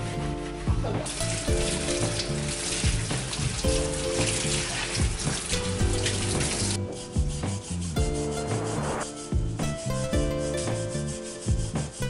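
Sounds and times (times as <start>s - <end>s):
background music with a beat: 0.0s - 12.0s
brush scrubbing a wet wheel: 0.0s - 12.0s
running water: 0.0s - 12.0s.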